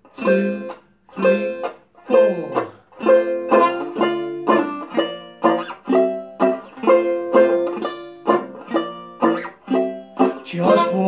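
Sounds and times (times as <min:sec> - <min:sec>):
banjo strumming chords: 0:00.0 - 0:11.0.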